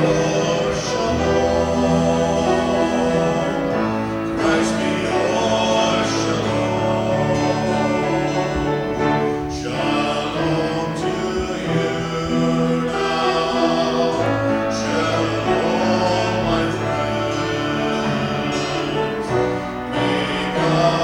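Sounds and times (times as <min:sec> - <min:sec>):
instruments holding long chords: 0:00.0 - 0:21.0
voices singing: 0:00.0 - 0:21.0.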